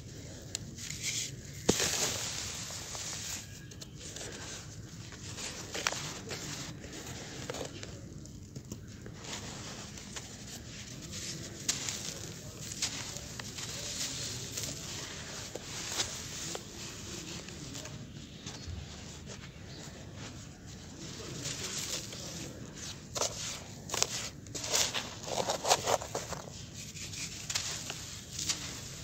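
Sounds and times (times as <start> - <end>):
dry cement mix crunching: 0.1 - 29.0.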